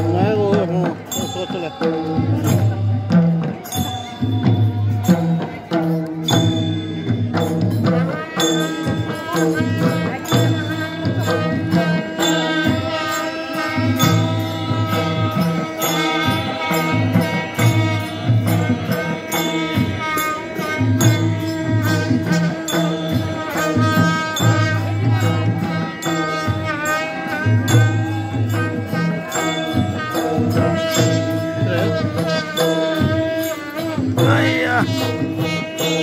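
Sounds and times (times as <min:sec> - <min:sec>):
steady percussion beat: 0:00.0 - 0:36.0.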